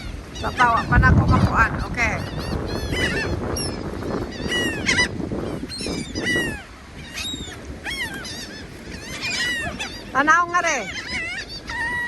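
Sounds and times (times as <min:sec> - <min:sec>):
seagulls squawking: 0:00.0 - 0:12.0.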